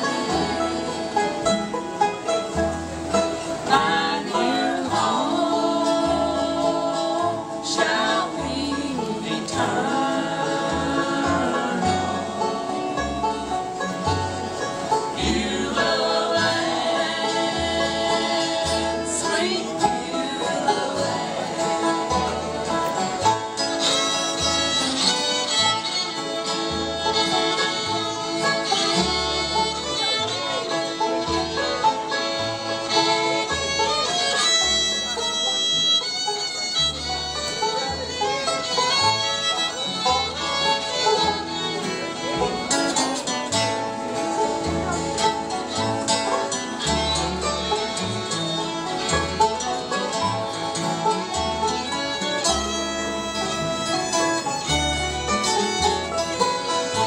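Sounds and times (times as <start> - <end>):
bluegrass band playing: 0.0 - 57.0
upright bass plucking low notes: 0.0 - 57.0.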